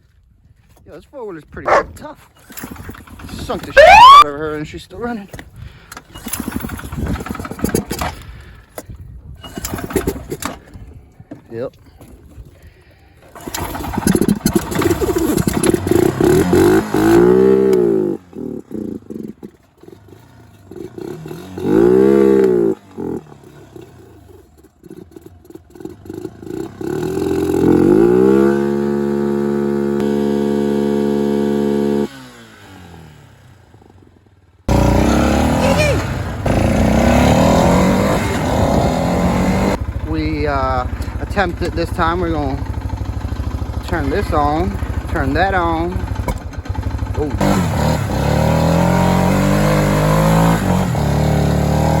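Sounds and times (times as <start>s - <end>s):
rough engine noise: 1.6s - 52.0s
atv engine revving: 1.7s - 4.3s, 6.0s - 8.2s, 9.4s - 10.7s, 13.2s - 52.0s.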